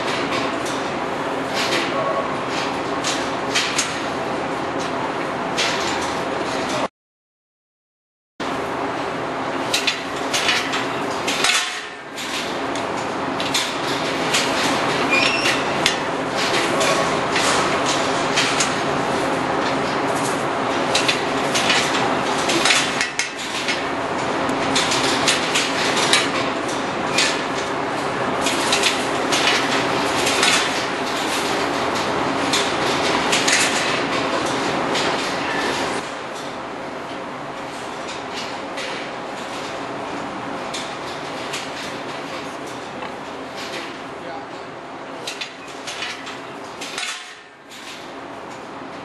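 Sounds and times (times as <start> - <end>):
steady background noise: 0.0 - 6.9, 8.4 - 49.0.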